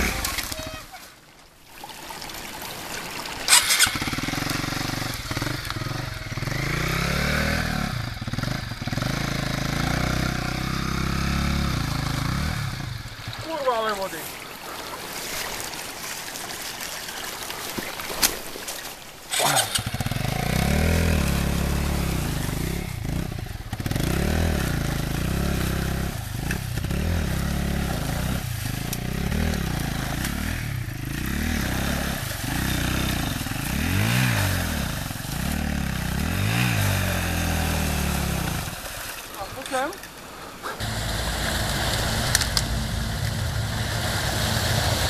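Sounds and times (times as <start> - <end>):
motorcycle engine revving: 0.0 - 0.9, 3.5 - 13.9, 19.3 - 39.9, 40.6 - 45.0
water splashing: 0.0 - 45.0.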